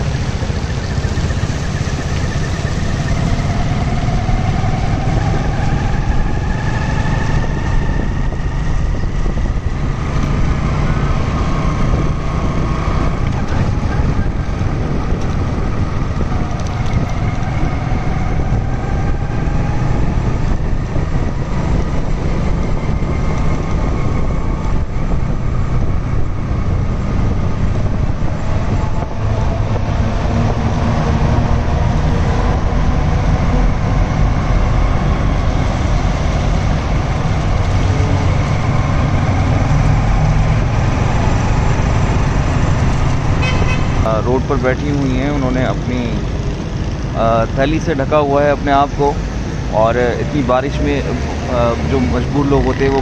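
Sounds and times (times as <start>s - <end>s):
motorcycle engine: 0.0s - 53.0s.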